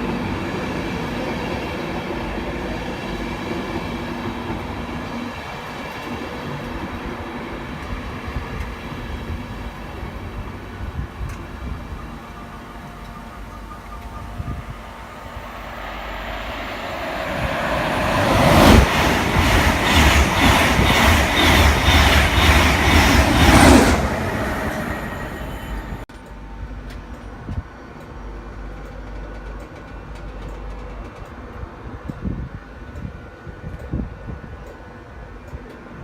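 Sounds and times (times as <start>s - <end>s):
train passing at speed: 0.0s - 36.0s.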